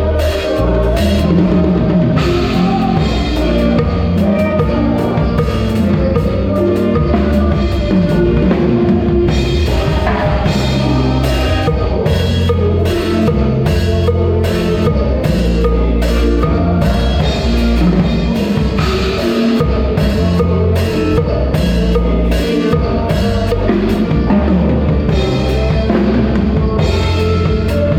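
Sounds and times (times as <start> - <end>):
drum kit: 0.0 - 27.9
live band playing: 0.0 - 27.9
low bass notes: 0.0 - 27.9.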